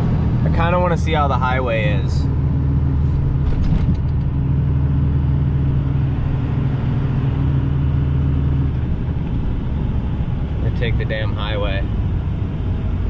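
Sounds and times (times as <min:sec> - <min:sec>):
diesel truck engine droning: 0:00.0 - 0:13.0
road noise: 0:00.0 - 0:13.0.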